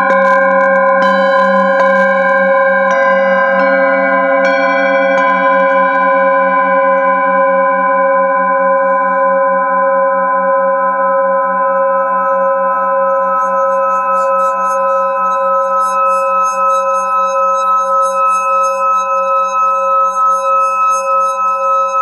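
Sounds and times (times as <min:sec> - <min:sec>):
singing bowl rimmed with mallet: 0:00.0 - 0:07.8, 0:11.0 - 0:22.0
singing bowl struck: 0:00.0 - 0:10.2, 0:10.8 - 0:22.0.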